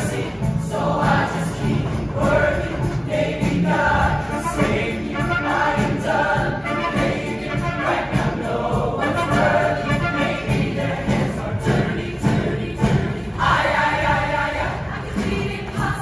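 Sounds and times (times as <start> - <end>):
choir singing: 0.0 - 16.0
musical accompaniment: 0.0 - 16.0.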